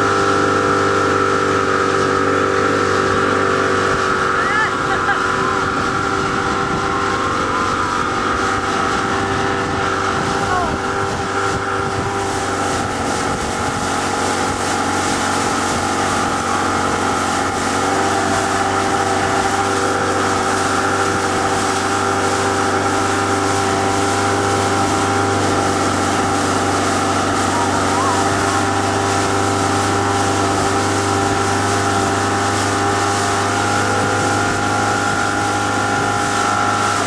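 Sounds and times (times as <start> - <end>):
outboard motor running: 0.0 - 37.0
rushing water of boat wake: 0.0 - 37.0.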